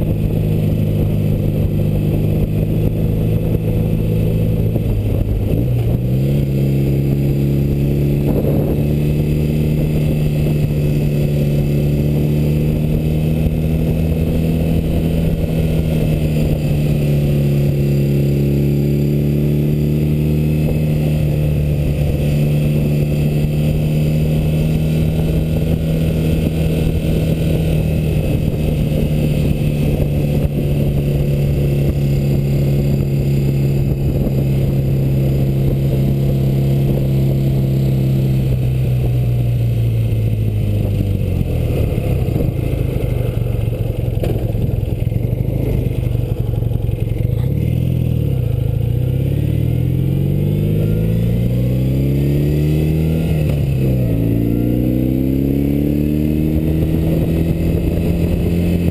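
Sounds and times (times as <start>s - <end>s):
motorcycle engine: 0.0s - 58.9s
wind and road noise: 0.0s - 58.9s.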